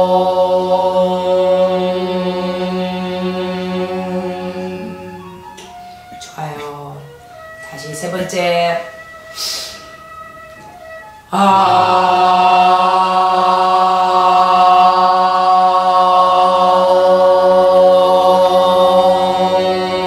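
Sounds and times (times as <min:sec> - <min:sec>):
voices holding a sung note: 0:00.0 - 0:08.9, 0:11.2 - 0:20.0.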